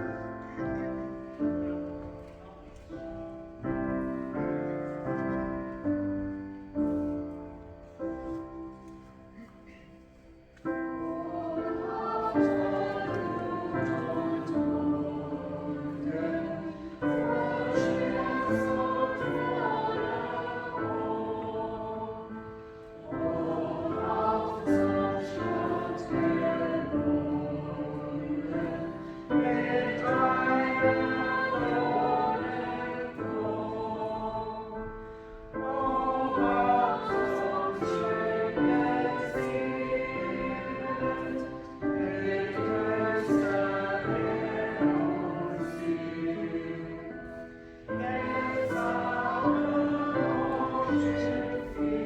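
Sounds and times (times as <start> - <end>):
church choir singing a hymn: 0.0 - 52.0.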